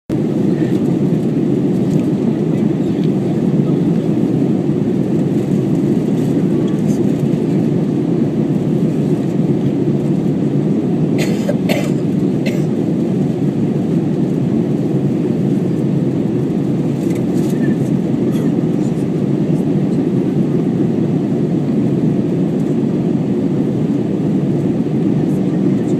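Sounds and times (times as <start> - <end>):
airliner cabin engine rush: 0.1 - 25.9.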